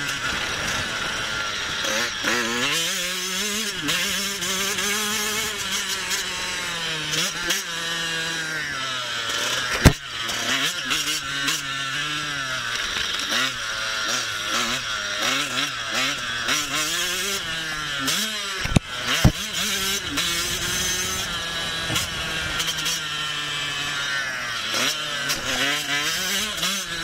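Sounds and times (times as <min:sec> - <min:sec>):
motocross bikes revving: 0:00.0 - 0:27.0.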